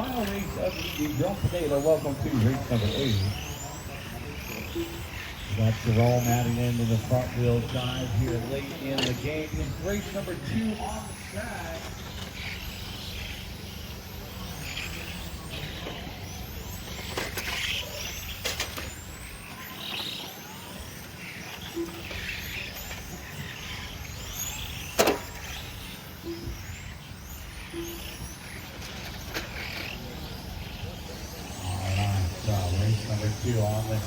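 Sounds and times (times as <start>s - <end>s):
rc car motors whining: 0.0s - 34.0s.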